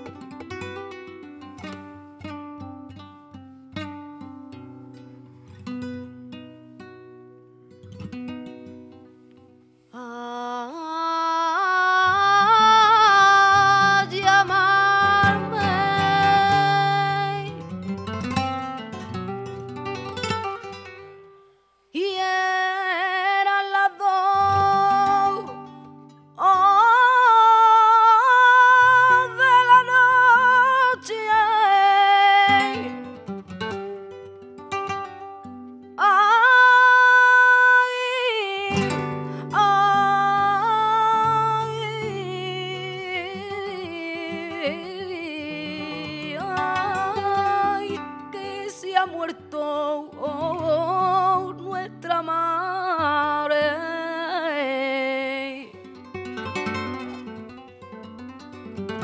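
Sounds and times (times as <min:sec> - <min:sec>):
nylon-string guitar: 0:00.0 - 0:59.0
woman singing flamenco: 0:00.0 - 0:59.0.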